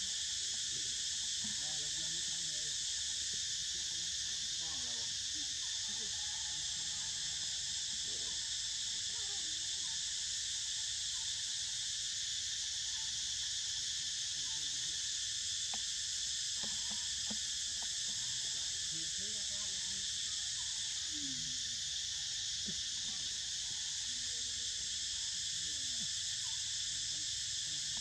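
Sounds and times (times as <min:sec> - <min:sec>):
forest insects chorus: 0:00.0 - 0:28.0.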